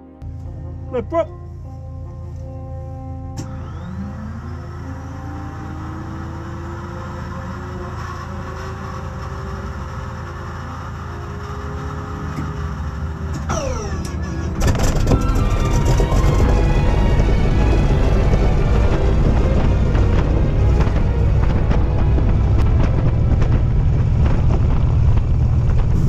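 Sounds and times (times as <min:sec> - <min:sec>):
radial engine running loudly: 0:02.0 - 0:26.0
engine starter whine: 0:03.2 - 0:26.0.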